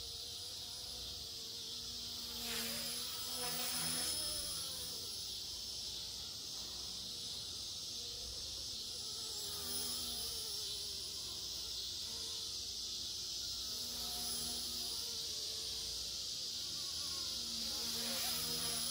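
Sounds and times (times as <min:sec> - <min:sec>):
insects buzzing: 0:00.0 - 0:18.9
rc helicopter rotor whine: 0:00.0 - 0:18.9.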